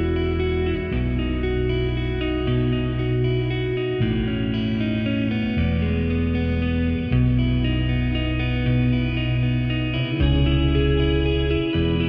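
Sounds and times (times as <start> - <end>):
electric guitar chords with effects: 0.0 - 12.0.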